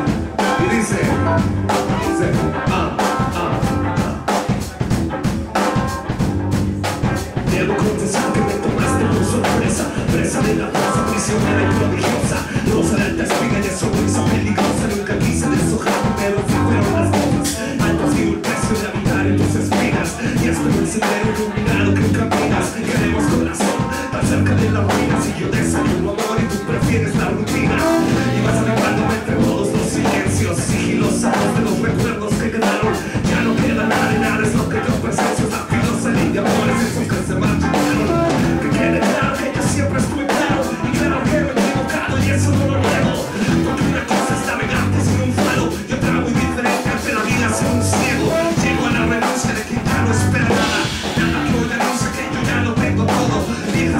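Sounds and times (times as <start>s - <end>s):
live band playing upbeat groove: 0.0s - 53.9s
person rapping into microphone: 0.0s - 53.9s.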